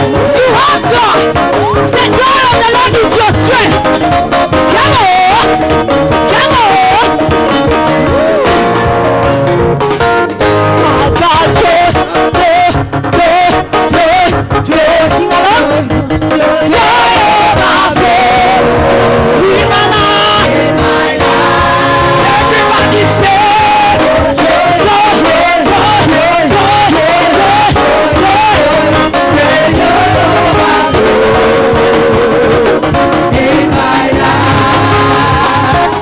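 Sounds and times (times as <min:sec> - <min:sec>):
band with bass and drums: 0:00.0 - 0:36.0
voices singing gospel: 0:00.0 - 0:36.0.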